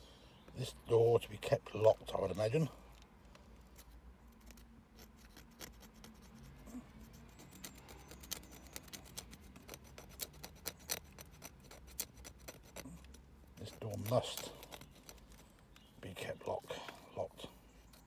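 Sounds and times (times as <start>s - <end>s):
faint scraping of paint: 2.7s - 18.0s.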